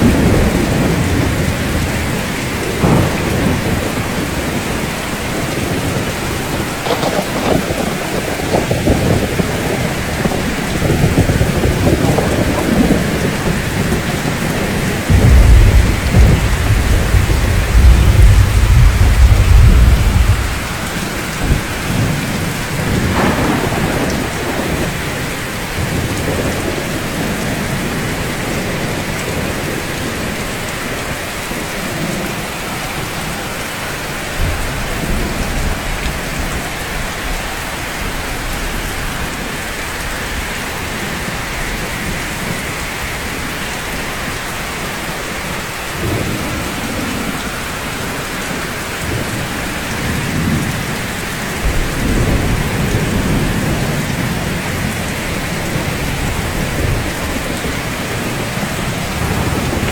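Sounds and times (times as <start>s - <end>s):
rolling thunder: 0.0s - 59.9s
steady rainfall: 0.0s - 59.9s.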